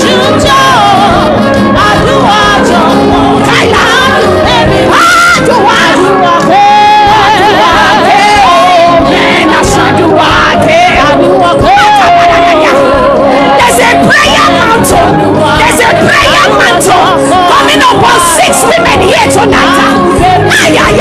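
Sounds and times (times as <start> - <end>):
backing voices singing: 0.0 - 21.0
instrumental backing: 0.0 - 21.0
woman singing into a microphone: 0.0 - 21.0.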